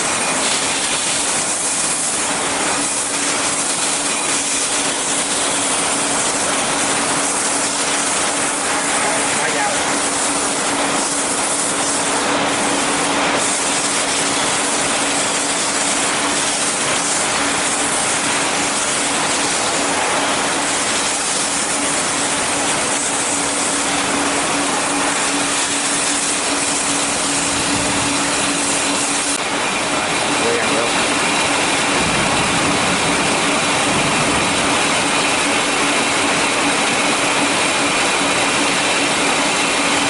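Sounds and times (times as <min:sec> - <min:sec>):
brake lathe humming: 0:00.0 - 0:40.0.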